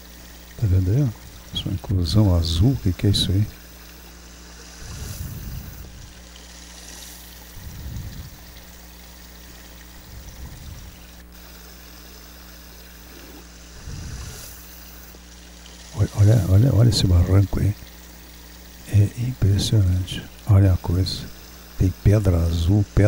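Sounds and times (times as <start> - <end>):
stream of water running: 0.0 - 23.0.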